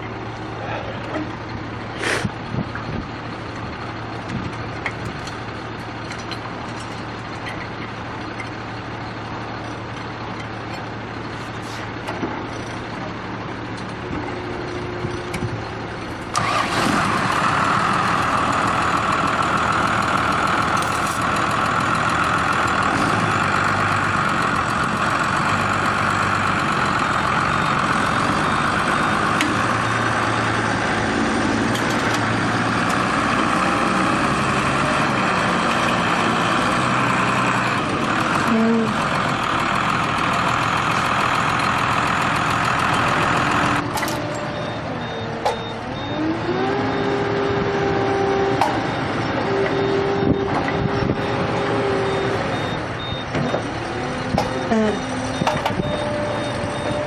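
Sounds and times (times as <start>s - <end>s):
heavy vehicle engine running: 0.0s - 57.0s
high engine whine: 0.0s - 57.0s.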